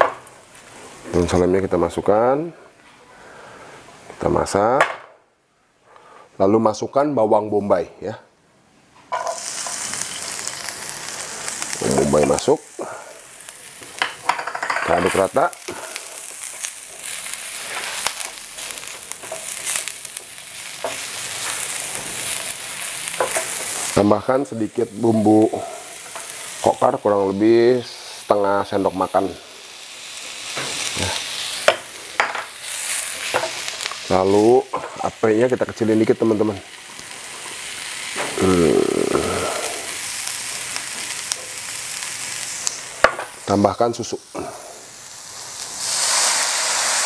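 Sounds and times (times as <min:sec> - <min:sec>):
onion sizzling in oil: 0:09.1 - 0:47.0.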